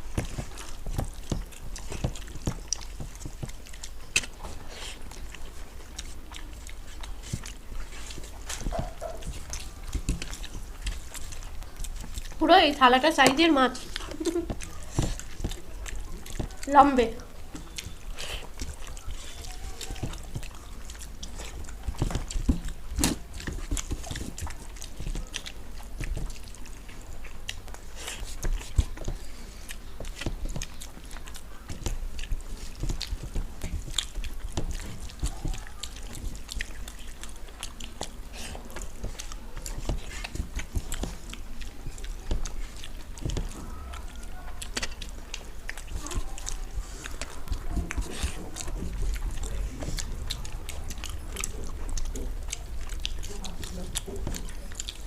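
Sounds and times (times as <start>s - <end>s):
people chewing: 0.0s - 55.0s.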